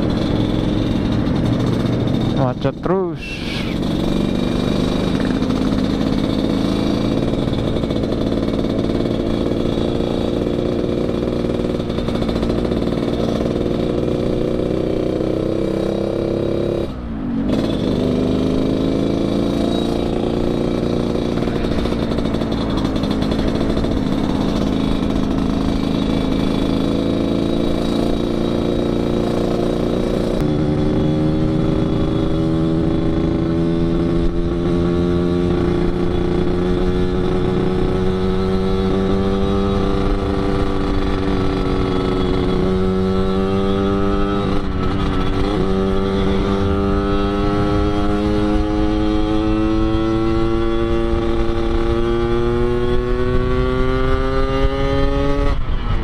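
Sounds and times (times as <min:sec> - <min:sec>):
raspy two-stroke motorcycle engine: 0:00.0 - 0:56.0.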